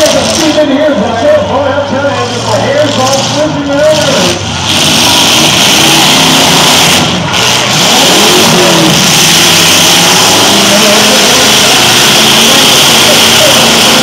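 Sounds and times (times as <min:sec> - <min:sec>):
truck engines revving hard: 0:00.0 - 0:14.0.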